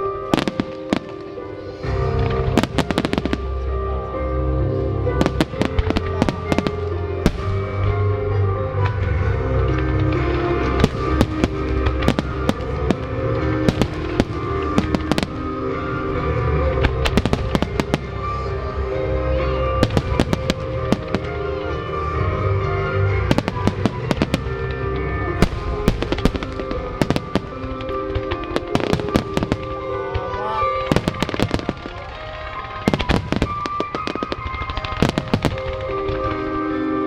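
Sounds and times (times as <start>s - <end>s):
fireworks bangs and crackles: 0.0s - 37.0s
music: 0.0s - 37.0s.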